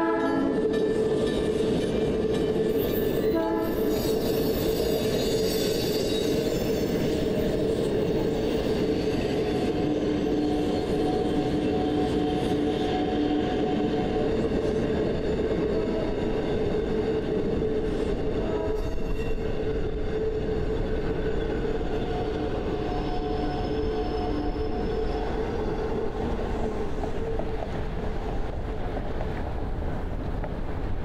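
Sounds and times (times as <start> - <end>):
electric train rumble: 0.0 - 31.0.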